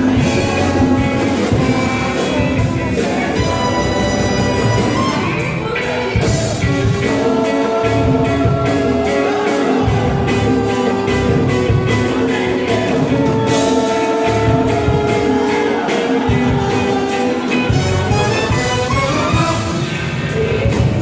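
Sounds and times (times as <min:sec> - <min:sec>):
dance orchestra playing: 0:00.0 - 0:20.3
steady drum beat: 0:00.0 - 0:21.0.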